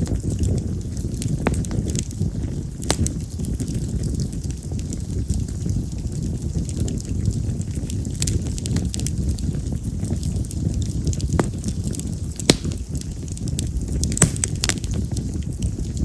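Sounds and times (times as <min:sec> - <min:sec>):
bonfire flame rumbling: 0:00.0 - 0:16.0
fire crackling: 0:00.0 - 0:16.0
sharp pops of burning wood: 0:00.0 - 0:16.0.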